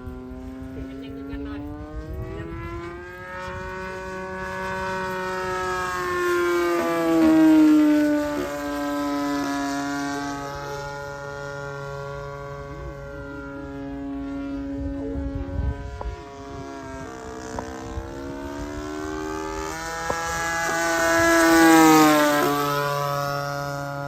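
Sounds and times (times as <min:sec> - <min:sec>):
model airplane engine passing: 0:00.0 - 0:24.0.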